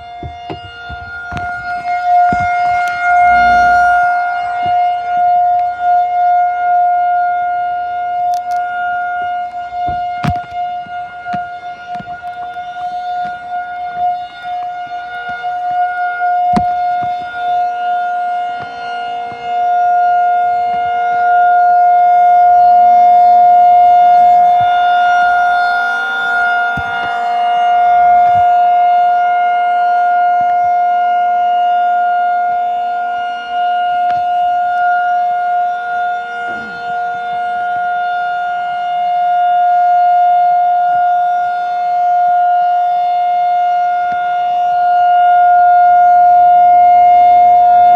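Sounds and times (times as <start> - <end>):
warning siren steady tone: 0.0 - 47.9.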